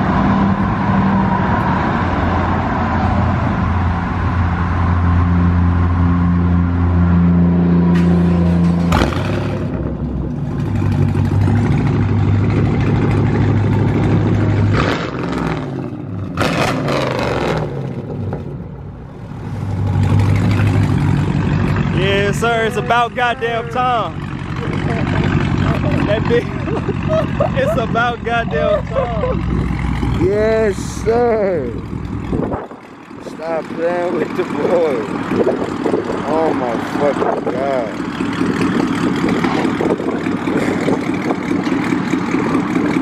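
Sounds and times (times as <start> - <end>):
car engine idling and revving: 0.0 - 43.0.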